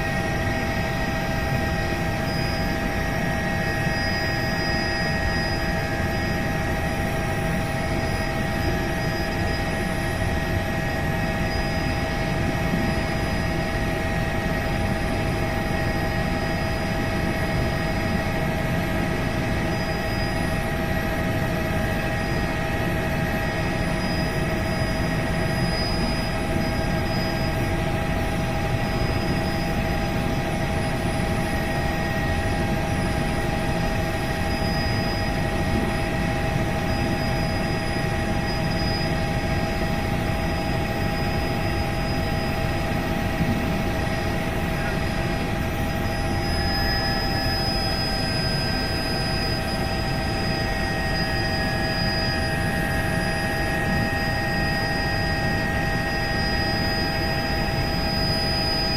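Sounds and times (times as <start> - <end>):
helicopter rotor beat: 0.0 - 58.9
helicopter whining tones: 0.0 - 58.9.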